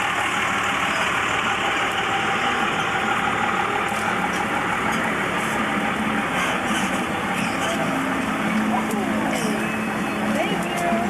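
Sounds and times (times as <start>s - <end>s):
outdoor noise: 0.0s - 11.0s
vehicle engine running: 0.0s - 11.0s.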